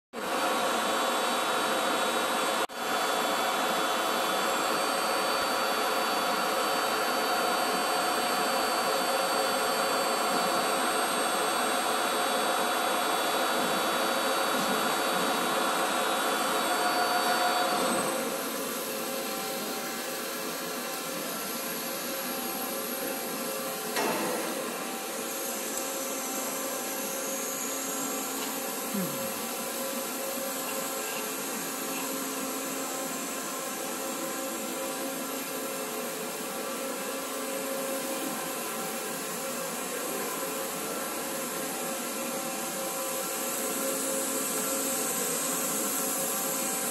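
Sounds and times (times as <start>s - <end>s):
boring mill machine whir: 0.2s - 46.9s.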